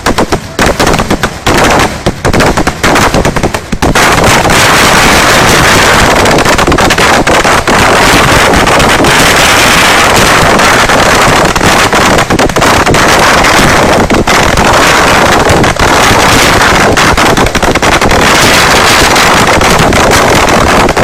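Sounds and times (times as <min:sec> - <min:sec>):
firecracker explosions barrage: 0:00.0 - 0:21.0.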